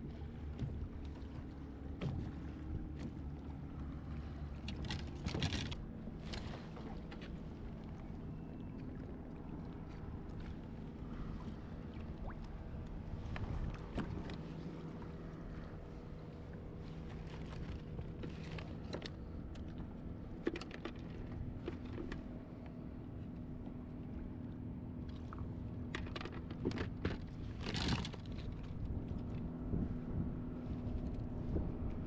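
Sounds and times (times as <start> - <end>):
boat motor hum: 0.0 - 32.0
water and wind noise: 0.0 - 32.0.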